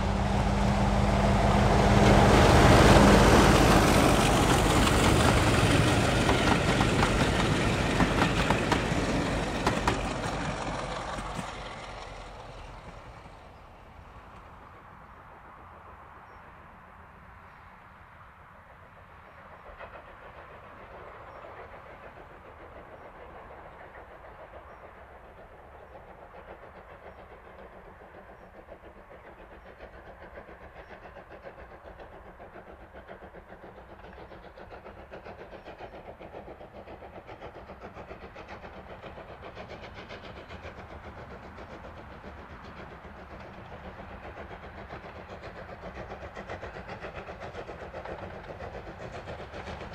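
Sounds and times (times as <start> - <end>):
steam locomotive chuffing: 0.0 - 15.1, 18.8 - 49.9.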